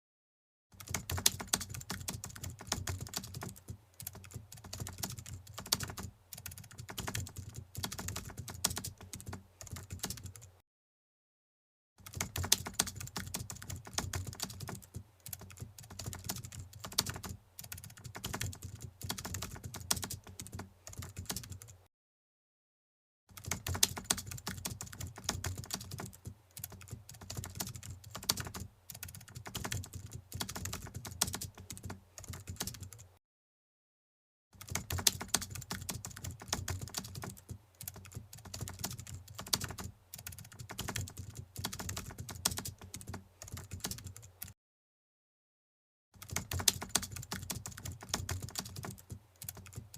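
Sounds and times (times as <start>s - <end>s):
keyboard typing: 0.8s - 10.5s, 12.0s - 21.8s, 23.3s - 33.1s, 34.6s - 44.6s, 46.2s - 49.9s.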